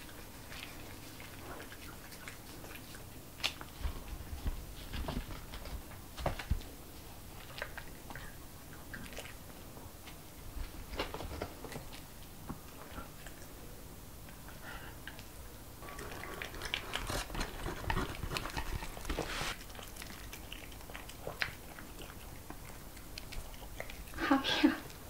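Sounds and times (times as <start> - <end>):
dog chewing food: 0.0 - 24.2.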